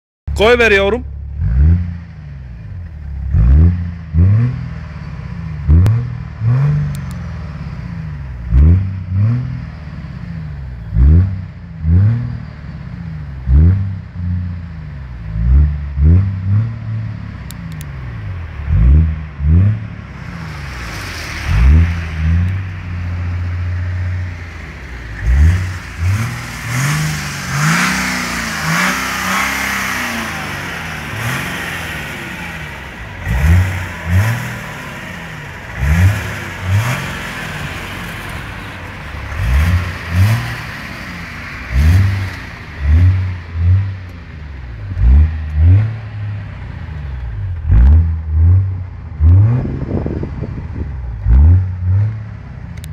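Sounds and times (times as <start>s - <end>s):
diesel engine revving: 0.3s - 52.9s.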